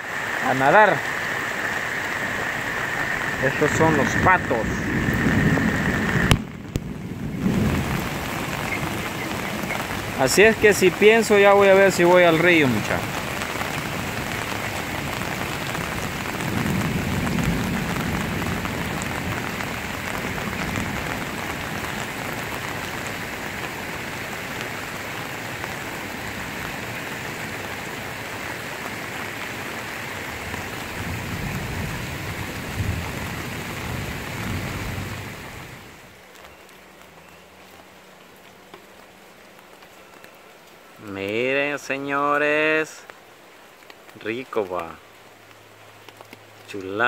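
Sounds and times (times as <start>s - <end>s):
rain on dirt street and puddles: 0.0s - 47.0s.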